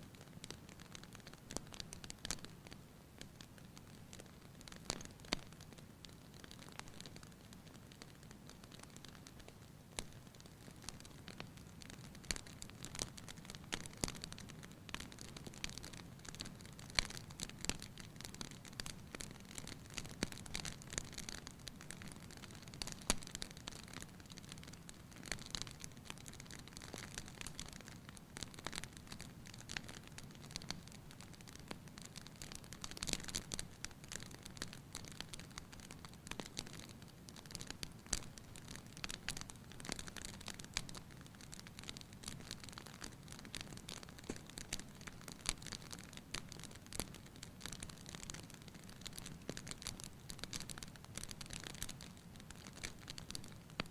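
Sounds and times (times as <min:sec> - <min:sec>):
wood fire crackling and popping: 0:00.1 - 0:53.9.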